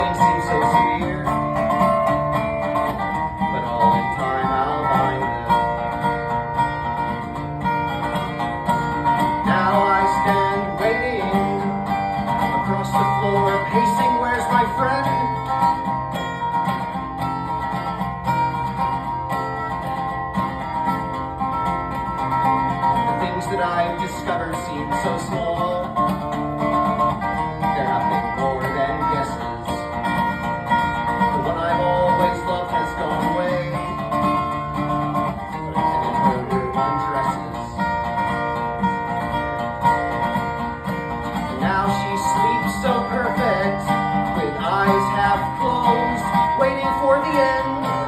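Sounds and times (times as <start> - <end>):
plucked acoustic strings: 0.0 - 48.0.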